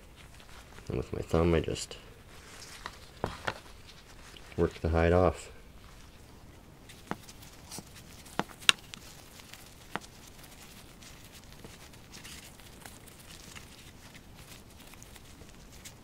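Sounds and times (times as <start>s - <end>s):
glove and fur rustling: 0.0s - 5.0s, 5.7s - 16.0s.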